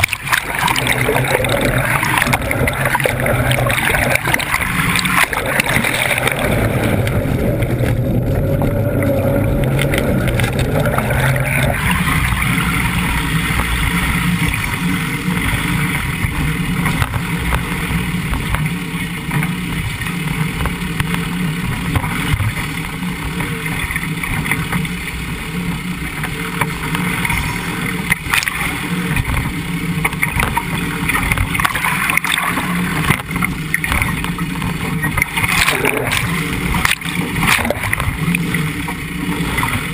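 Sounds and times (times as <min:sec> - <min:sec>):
vehicle low rumble: 0:00.0 - 0:39.9
water rushing and splashing: 0:00.0 - 0:39.9.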